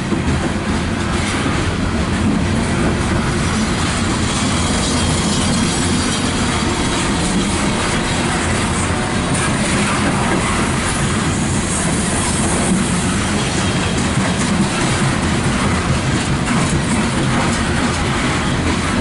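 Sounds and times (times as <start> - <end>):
train wheels rumbling on rail: 0.0 - 19.0
wheels clacking over rail joints: 0.0 - 19.0.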